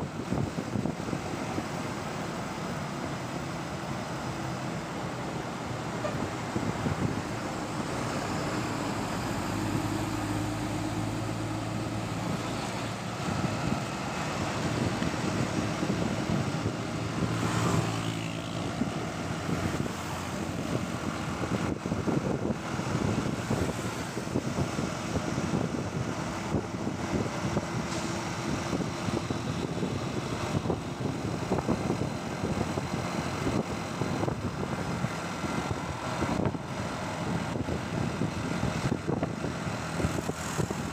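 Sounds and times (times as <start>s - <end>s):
traffic noise: 0.0s - 40.9s.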